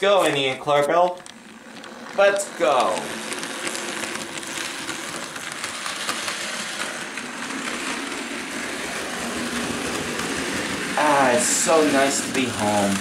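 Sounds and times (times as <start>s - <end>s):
wheels clicking on rails: 0.0s - 13.0s
small motor whirring: 0.3s - 13.0s.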